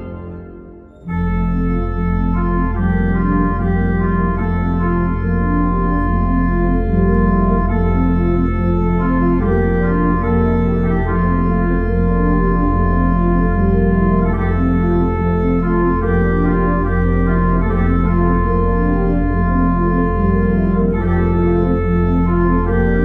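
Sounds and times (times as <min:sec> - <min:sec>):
church organ chords: 0:00.0 - 0:23.0.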